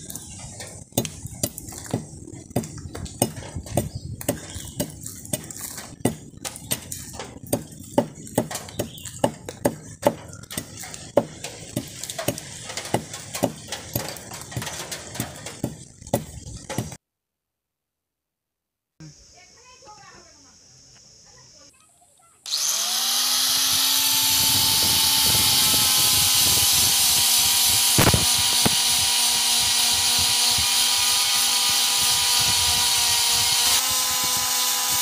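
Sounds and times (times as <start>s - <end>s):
blade chopping into wood: 1.0s - 17.0s, 22.5s - 35.0s.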